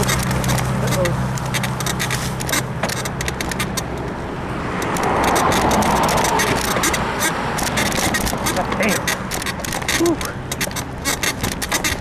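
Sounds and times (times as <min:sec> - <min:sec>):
bicycle rattling and clicking: 0:00.0 - 0:12.0
passing traffic: 0:00.0 - 0:12.0
traffic engine hum: 0:00.0 - 0:12.0.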